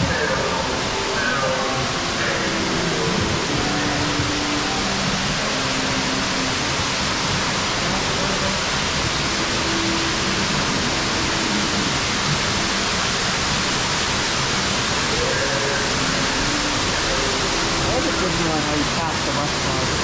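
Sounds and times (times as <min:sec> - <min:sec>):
rushing falling water: 0:00.0 - 0:20.0.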